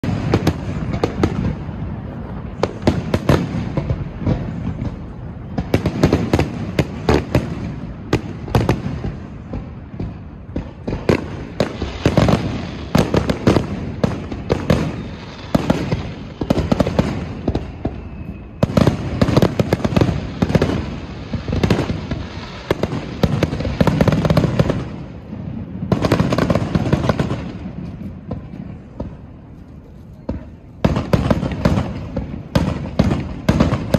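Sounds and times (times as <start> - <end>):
fireworks bangs and booms: 0.0 - 33.9.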